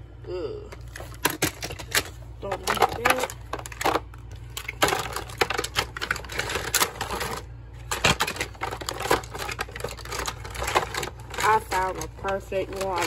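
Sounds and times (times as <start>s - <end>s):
plastic toys clattering: 0.7s - 13.0s.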